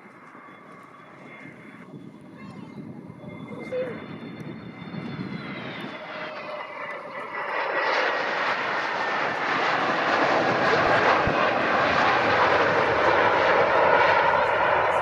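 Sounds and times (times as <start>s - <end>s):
airliner engines whining and roaring: 0.0s - 15.0s.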